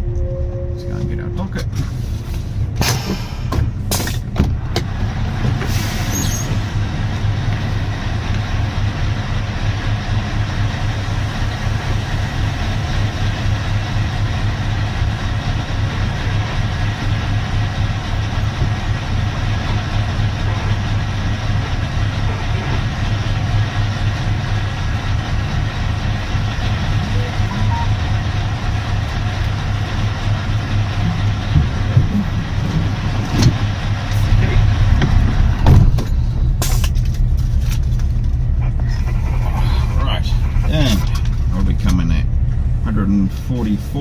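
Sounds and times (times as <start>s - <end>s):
road noise: 0.0s - 44.0s
truck engine under load: 1.1s - 44.0s.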